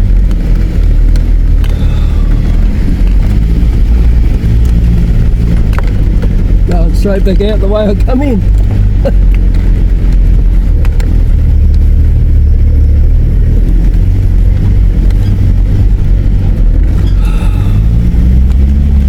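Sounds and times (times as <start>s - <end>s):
rumbling road noise: 0.0s - 19.0s
vehicle engine droning: 0.0s - 19.0s.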